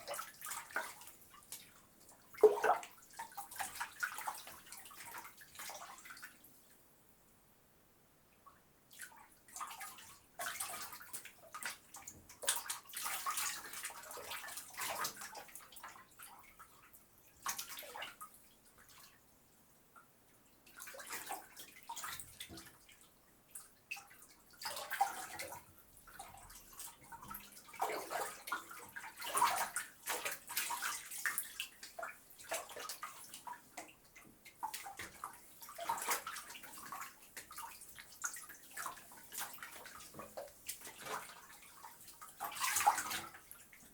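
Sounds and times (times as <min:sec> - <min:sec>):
bathtub water splashing: 0:00.0 - 0:06.6, 0:08.9 - 0:19.3, 0:20.6 - 0:43.9.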